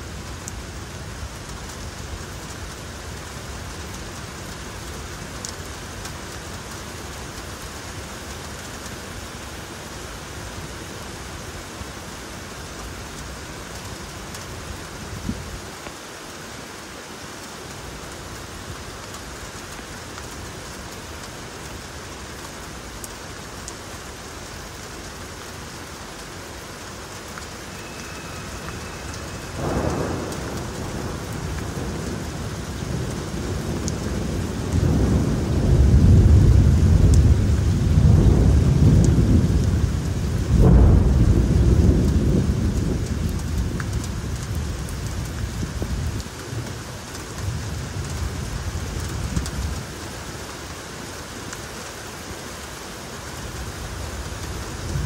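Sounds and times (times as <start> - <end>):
steady rain on street: 0.0 - 55.0.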